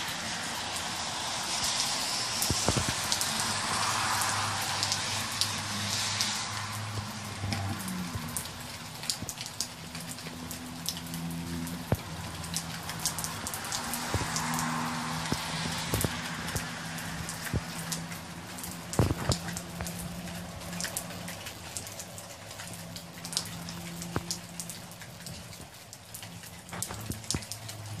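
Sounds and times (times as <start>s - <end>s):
heavy rain pouring: 0.0s - 28.0s
water dripping off a roof edge: 0.0s - 28.0s.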